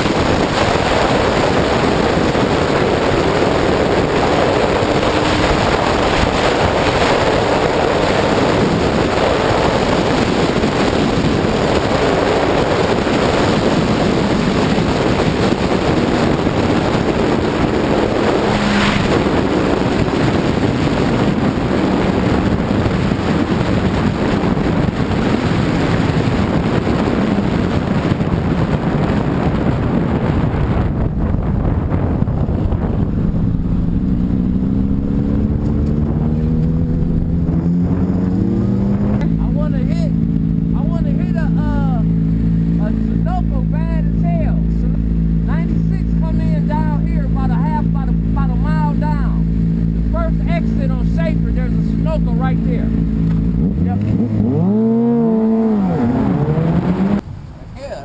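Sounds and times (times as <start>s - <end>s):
motorcycle engine running: 0.0s - 57.2s
wind rush on microphone: 0.0s - 58.0s.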